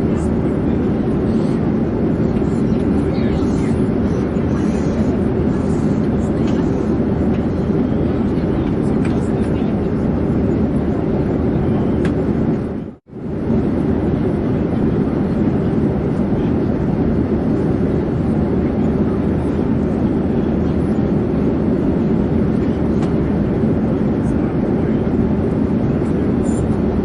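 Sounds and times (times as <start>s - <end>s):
airplane drone in flight: 0.0s - 27.0s.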